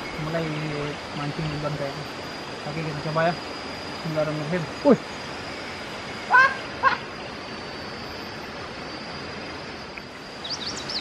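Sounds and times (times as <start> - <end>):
thin high tone: 0.0 - 11.0.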